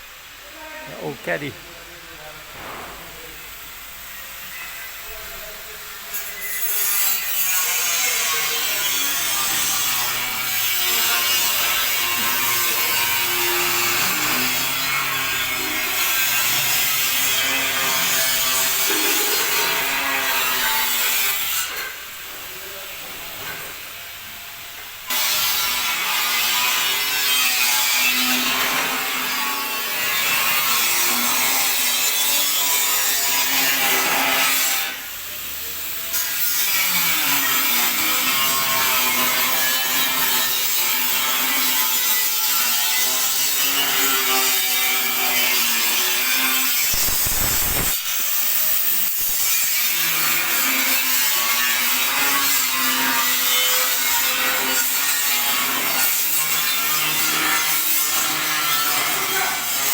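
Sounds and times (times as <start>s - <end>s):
loud rasping tool noise: 3.4s - 59.9s.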